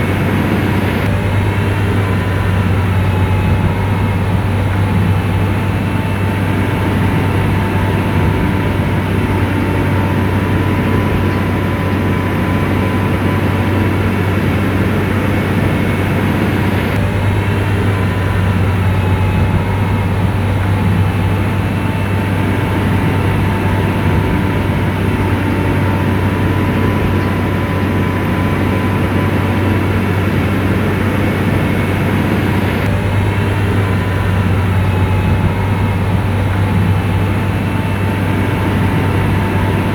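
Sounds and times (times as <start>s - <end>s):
bulldozer diesel engine drone: 0.0s - 39.9s
tracks whine: 0.0s - 39.9s.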